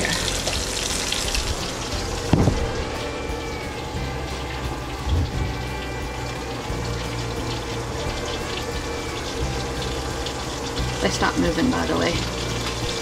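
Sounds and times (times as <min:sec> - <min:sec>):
food sizzling in a pan: 0:00.0 - 0:13.0
steady hum: 0:00.2 - 0:13.0.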